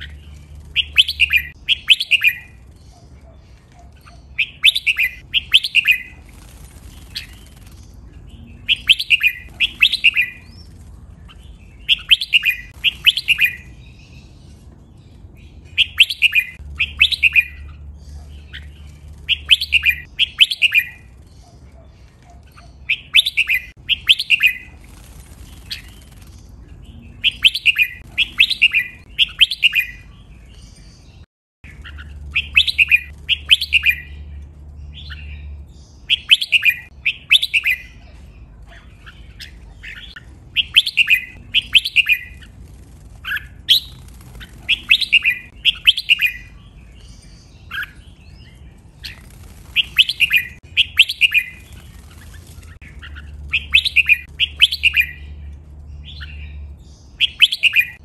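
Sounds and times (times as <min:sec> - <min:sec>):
bird singing whistled notes: 0:00.0 - 0:03.3, 0:04.0 - 0:06.2, 0:06.9 - 0:14.4, 0:15.6 - 0:21.6, 0:22.2 - 0:24.7, 0:25.7 - 0:38.2, 0:39.0 - 0:42.5, 0:43.2 - 0:58.0.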